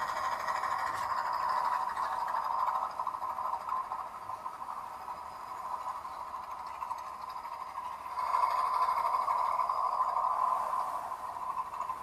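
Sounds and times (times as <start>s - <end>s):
toy helicopter whirring: 0.0s - 12.0s.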